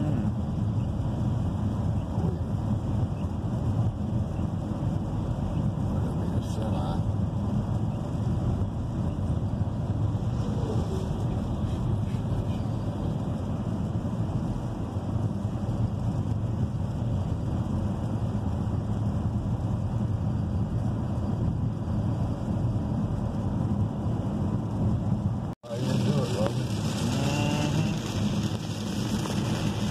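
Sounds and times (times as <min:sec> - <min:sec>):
road and tyre noise in car: 0:00.0 - 0:29.9.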